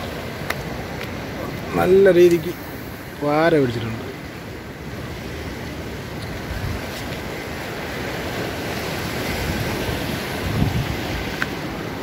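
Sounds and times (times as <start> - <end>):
surf washing over rocks: 0.0 - 12.0
wind rumbling on microphone: 0.0 - 12.0.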